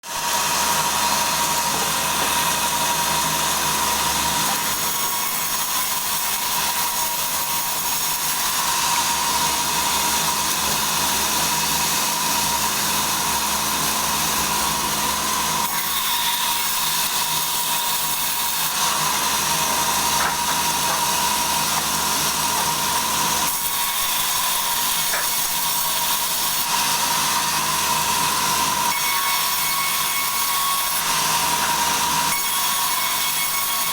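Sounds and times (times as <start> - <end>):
saw cutting through log: 0.0 - 33.9.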